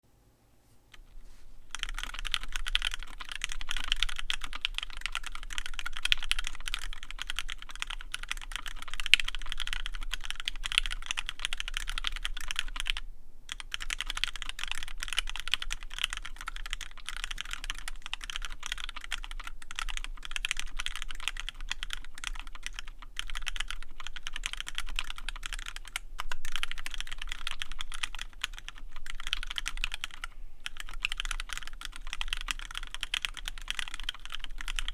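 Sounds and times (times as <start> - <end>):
typing on mechanical keyboard: 0.9 - 34.9.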